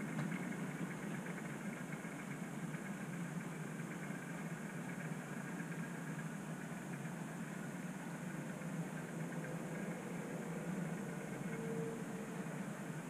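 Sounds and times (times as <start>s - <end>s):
model train rumbling on track: 0.0s - 13.0s.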